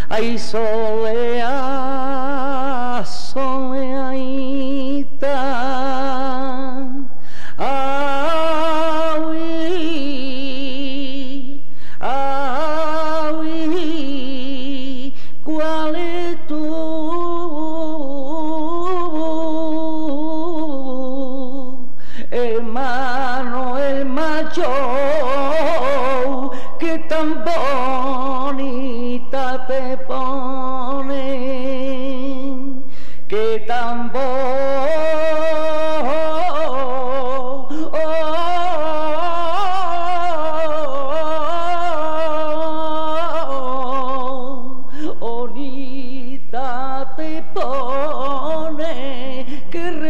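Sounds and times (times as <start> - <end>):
person singing flamenco lament: 0.0 - 50.0.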